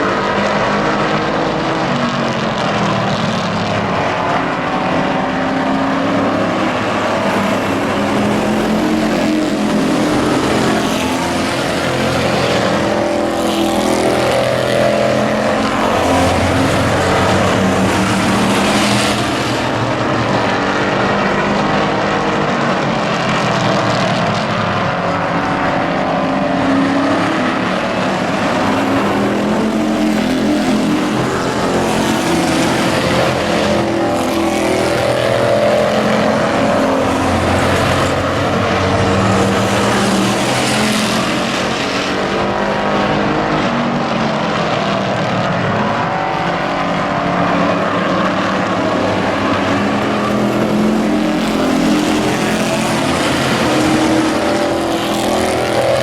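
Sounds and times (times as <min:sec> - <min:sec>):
race truck engines: 0:00.0 - 0:56.0.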